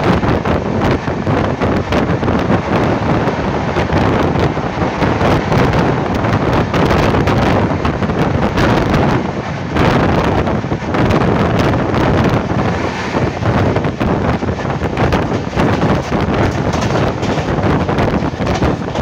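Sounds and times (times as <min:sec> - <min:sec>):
train wheels clattering on rail: 0:00.0 - 0:19.0
wind buffeting microphone: 0:00.0 - 0:19.0.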